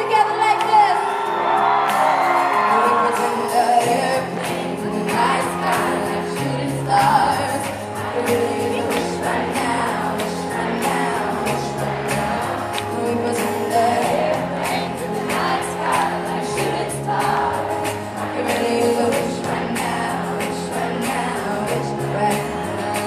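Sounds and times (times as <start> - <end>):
crowd shouting and singing along: 0.0 - 23.0
acoustic guitars: 1.2 - 23.0
woman singing: 2.3 - 23.0
backing vocals: 2.4 - 23.0.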